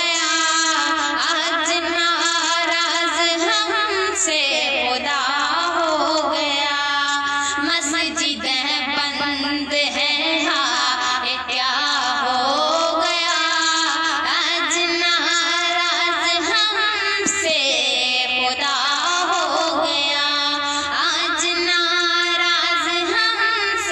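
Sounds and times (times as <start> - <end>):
woman singing devotional song: 0.0 - 23.9.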